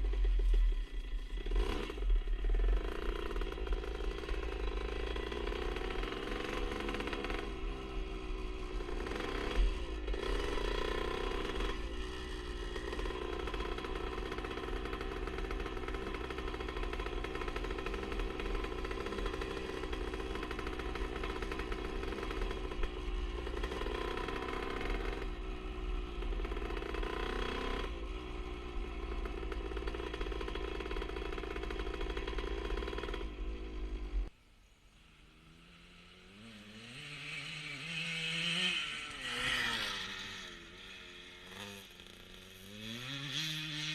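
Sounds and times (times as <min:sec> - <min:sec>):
two-stroke motorcycle engine running: 0:00.0 - 0:34.3, 0:35.3 - 0:43.9.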